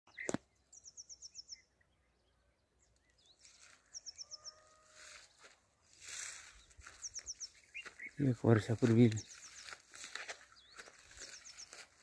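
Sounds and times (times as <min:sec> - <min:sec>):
faint bird chirps: 0:00.1 - 0:05.4, 0:06.0 - 0:12.0.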